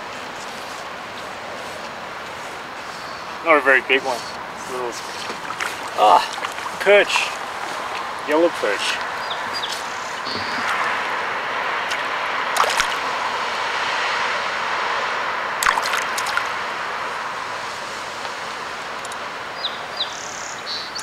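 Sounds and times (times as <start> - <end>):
water rushing and trickling: 0.0 - 21.0.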